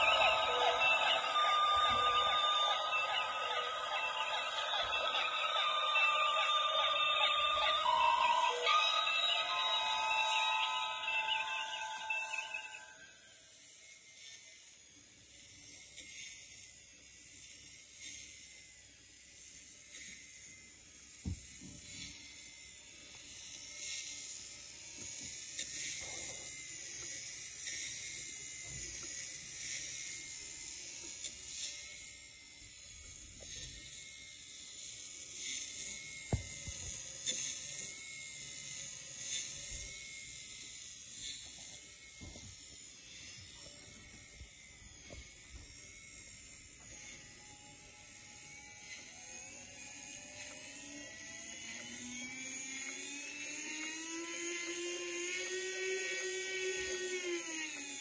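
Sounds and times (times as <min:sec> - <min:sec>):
small motor whirring and ticking: 0:00.0 - 0:58.0.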